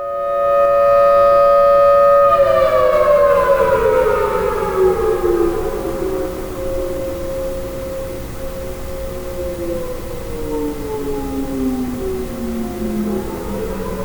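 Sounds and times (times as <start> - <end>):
outdoor warning sirens: 0.0 - 14.0
siren winding down: 0.0 - 14.0.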